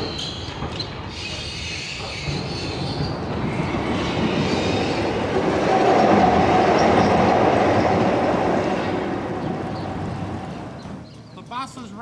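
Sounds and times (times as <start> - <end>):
electric tram passing: 0.0 - 11.4.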